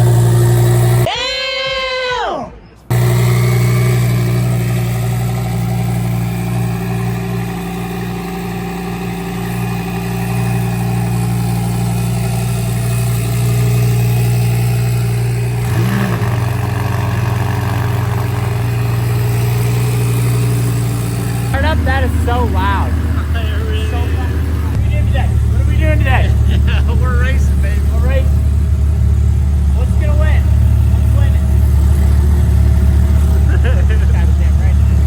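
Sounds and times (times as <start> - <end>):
sports car engine idling: 0.0 - 1.1, 2.9 - 35.0.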